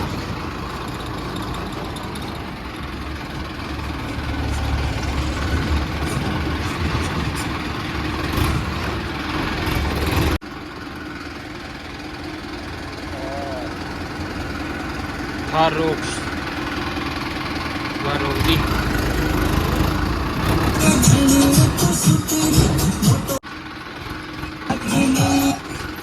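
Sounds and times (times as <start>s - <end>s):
tractor diesel engine rumbling: 0.0s - 26.0s.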